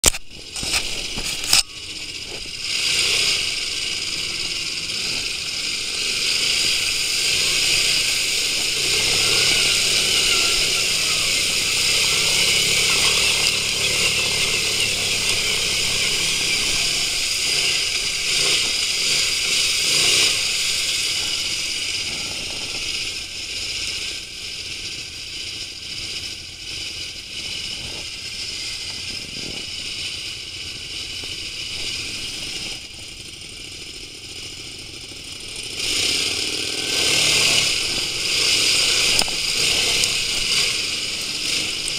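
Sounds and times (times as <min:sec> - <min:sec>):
quad bike engine running: 0:00.0 - 0:41.9
hiss of water and tyres: 0:00.4 - 0:33.6, 0:35.6 - 0:41.9.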